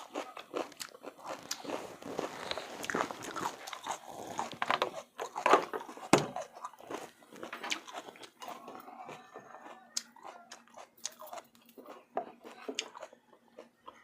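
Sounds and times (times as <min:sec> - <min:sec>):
wet chewing and lip smacking: 0:00.0 - 0:14.0.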